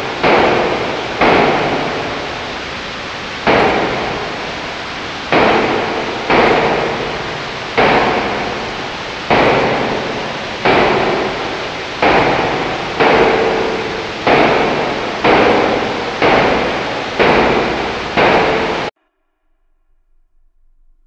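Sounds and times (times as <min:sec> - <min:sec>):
harsh noise bursts: 0:00.0 - 0:18.9.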